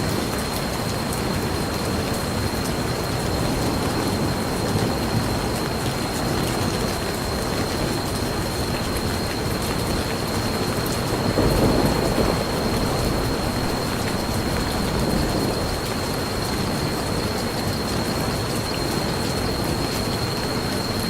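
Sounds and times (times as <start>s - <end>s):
distant thunder rumble: 0.0s - 21.0s
steady rain: 0.0s - 21.0s.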